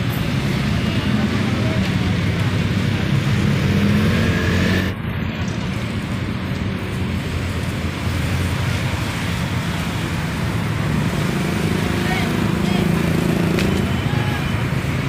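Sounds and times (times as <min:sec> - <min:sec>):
cars passing: 0:00.0 - 0:15.0
vehicle engines humming: 0:00.0 - 0:15.0.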